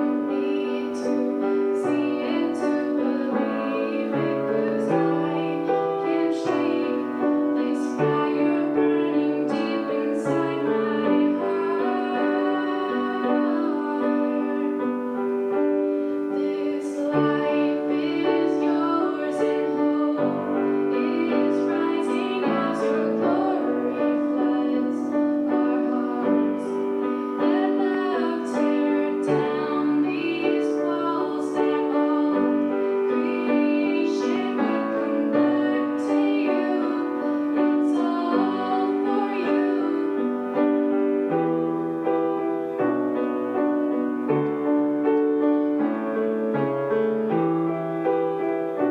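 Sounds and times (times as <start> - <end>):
woman singing: 0.0 - 41.3
piano chords: 0.0 - 48.9.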